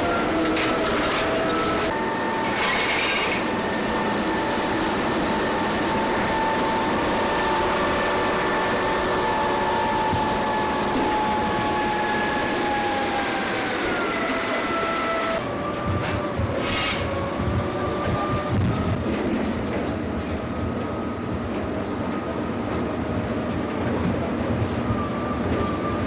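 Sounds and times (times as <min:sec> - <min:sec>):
machine running with whine: 0:00.0 - 0:22.0.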